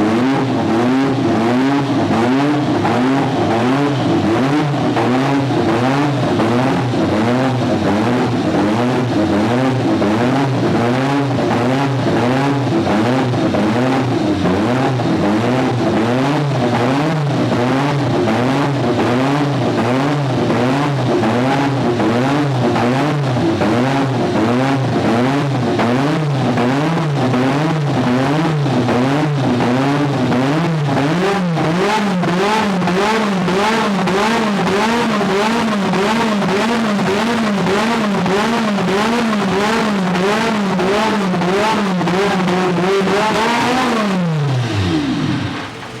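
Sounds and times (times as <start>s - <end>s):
racing engine revving: 0.0s - 46.0s.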